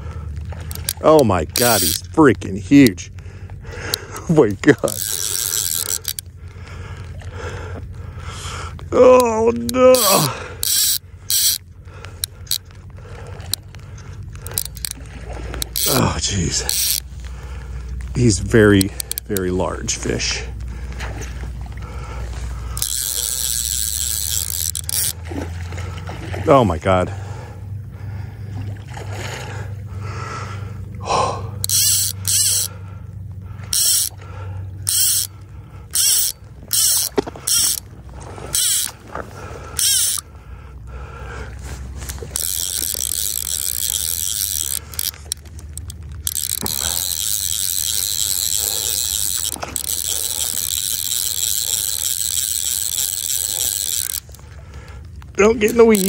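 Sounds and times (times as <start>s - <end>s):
fishing reel drag ratcheting: 0.0s - 28.4s, 29.5s - 56.0s.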